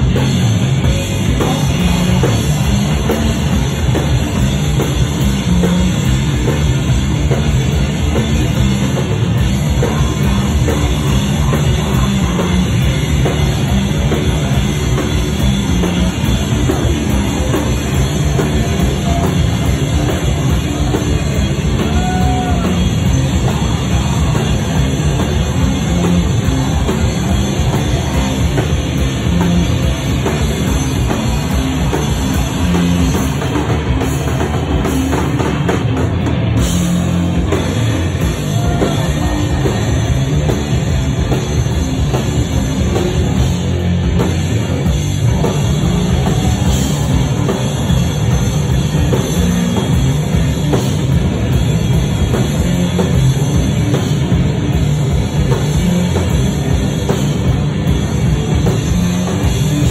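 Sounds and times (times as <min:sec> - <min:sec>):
distorted guitar and bass: 0:00.0 - 0:59.9
drum kit: 0:00.0 - 0:59.9.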